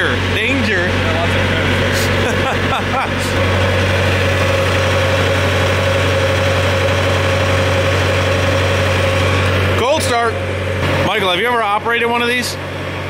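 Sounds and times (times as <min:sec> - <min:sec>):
boom lift engine idling: 0:00.0 - 0:13.0.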